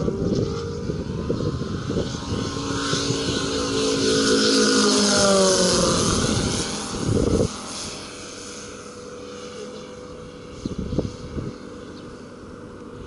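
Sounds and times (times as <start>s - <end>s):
model plane engine flying past: 0.0s - 13.0s.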